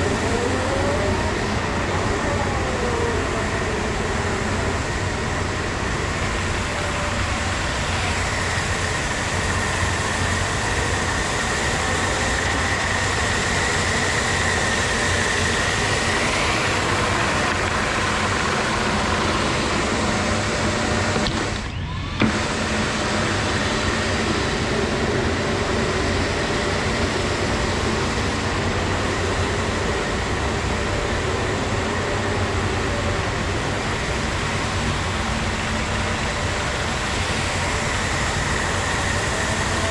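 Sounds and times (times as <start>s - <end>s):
floor scrubber motors whirring: 0.0s - 39.9s
high whine: 0.0s - 39.9s.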